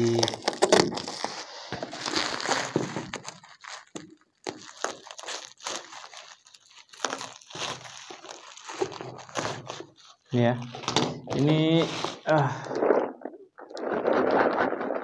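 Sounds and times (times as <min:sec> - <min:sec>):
scissors cutting plastic: 0:00.0 - 0:12.3
bubble wrap crinkling: 0:00.0 - 0:15.0.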